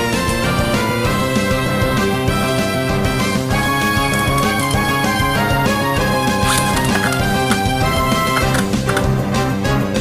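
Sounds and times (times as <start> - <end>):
video game style music: 0.0 - 10.0.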